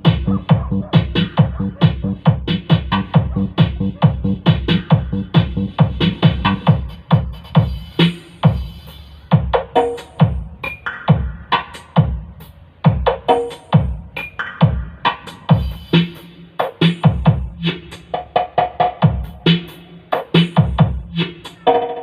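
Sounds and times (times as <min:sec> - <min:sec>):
dance music over loudspeakers: 0:00.0 - 0:22.0.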